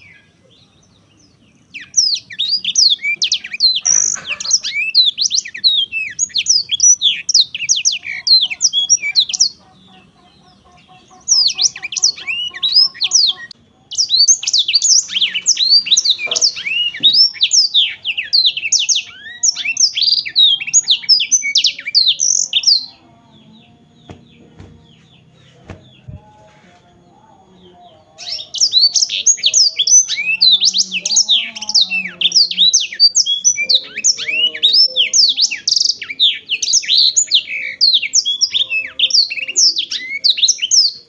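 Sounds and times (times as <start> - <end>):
canary twittering song: 0.0 - 26.3, 27.5 - 41.0.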